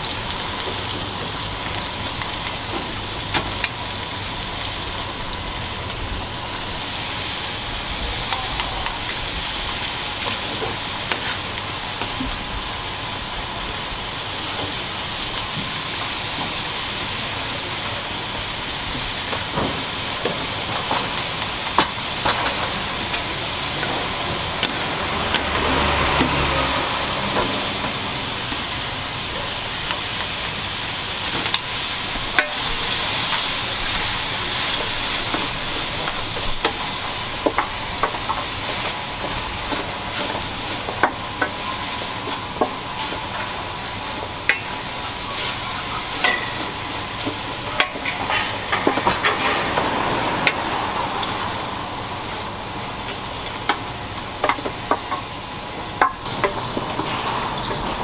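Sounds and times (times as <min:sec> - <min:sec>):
food sizzling on stove: 0:00.0 - 0:58.0.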